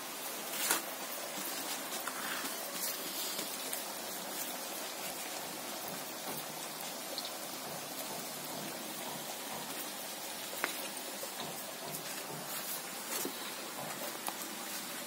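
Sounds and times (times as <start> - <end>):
wood fire hissing and crackling: 0.0 - 15.0.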